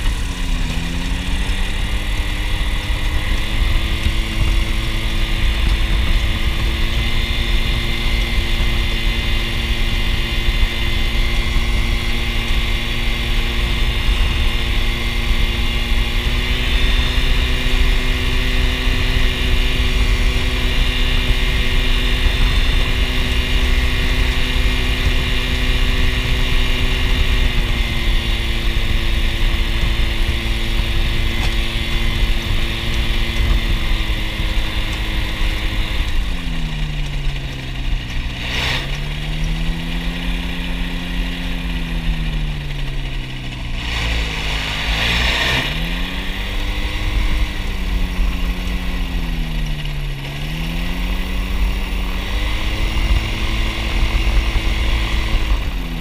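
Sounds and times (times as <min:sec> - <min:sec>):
aircraft engine and propeller: 0:00.0 - 0:56.0.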